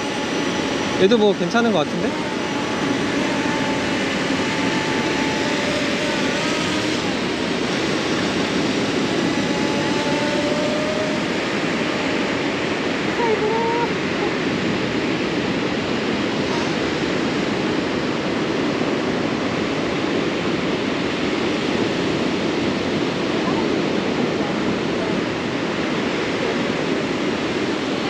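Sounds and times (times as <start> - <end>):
ocean surf breaking: 0.0 - 28.0
wind: 0.0 - 28.0.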